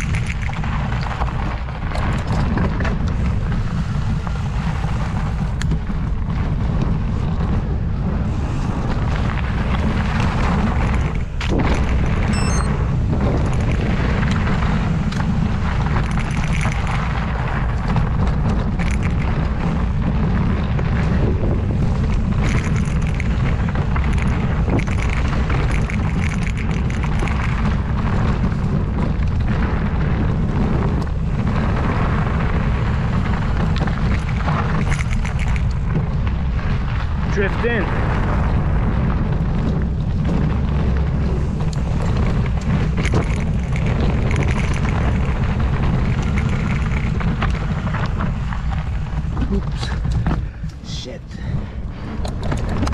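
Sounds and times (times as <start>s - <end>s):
bike rattling and knocking: 0.0s - 52.9s
bike tyres on dirt: 0.0s - 52.9s
wind buffeting microphone: 0.0s - 52.9s.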